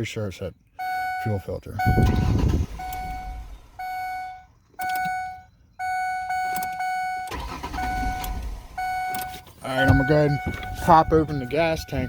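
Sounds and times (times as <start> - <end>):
car warning chime beeping: 0.8 - 12.0.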